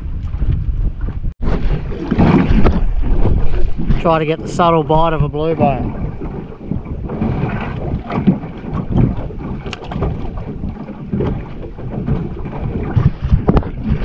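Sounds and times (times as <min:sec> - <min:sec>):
water slapping against hull: 0:00.0 - 0:14.0
wind buffeting microphone: 0:00.0 - 0:14.0.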